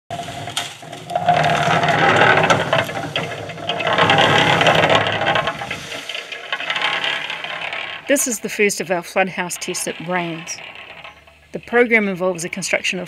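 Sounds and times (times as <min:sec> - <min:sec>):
concrete mixer running: 0:00.1 - 0:11.7
clattering rattle: 0:00.1 - 0:13.0.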